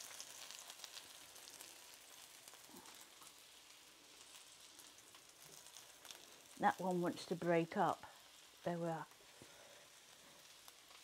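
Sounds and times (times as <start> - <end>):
fritters sizzling in oil: 0.0 - 11.0
small crackles: 0.0 - 11.0.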